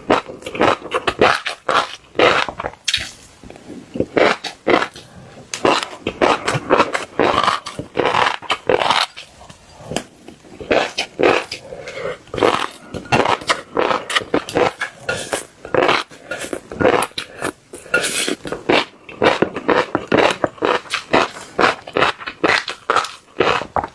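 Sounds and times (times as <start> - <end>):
crunchy chewing of fish roe: 0.0 - 23.9.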